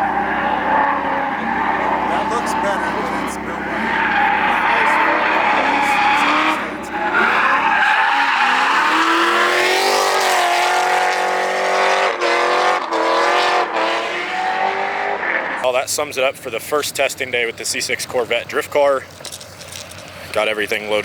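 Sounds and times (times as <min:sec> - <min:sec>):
car engine at high revs: 0:00.0 - 0:21.0
tires screeching: 0:00.0 - 0:21.0.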